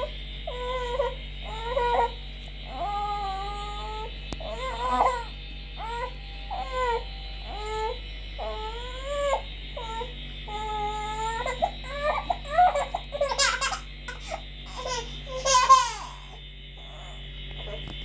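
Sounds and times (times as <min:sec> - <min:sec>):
steady background hum: 0:00.0 - 0:18.0
small child whining and crying: 0:00.5 - 0:17.2.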